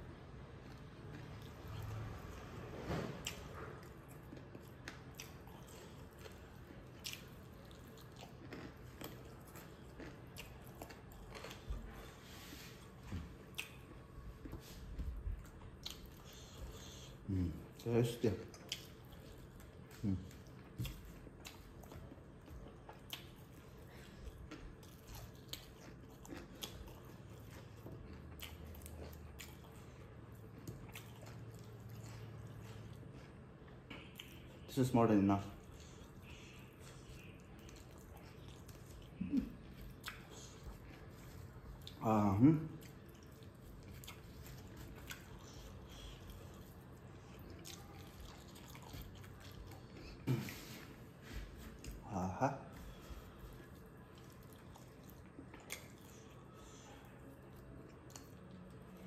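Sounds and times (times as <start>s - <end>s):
faint low hum: 0.0s - 59.0s
mouth chewing: 3.2s - 59.0s.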